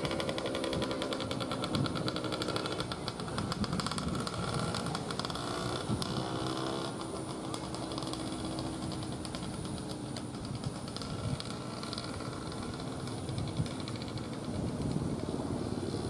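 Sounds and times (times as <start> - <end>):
small scooter engine running: 0.0 - 16.0.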